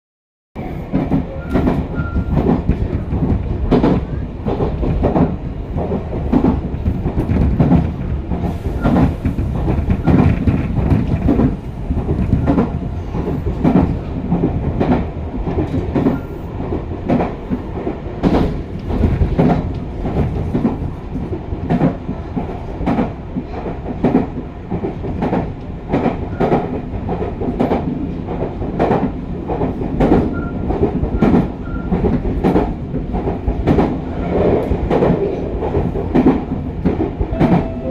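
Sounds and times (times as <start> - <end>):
train rumbling: 0.6 - 37.9.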